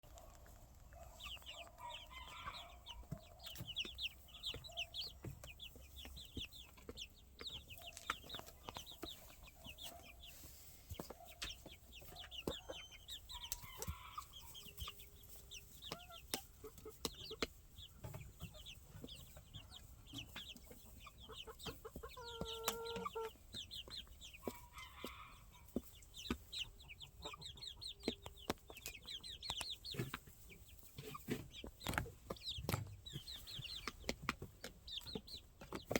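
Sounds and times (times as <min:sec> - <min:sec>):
chicks peeping: 0:00.0 - 0:35.9.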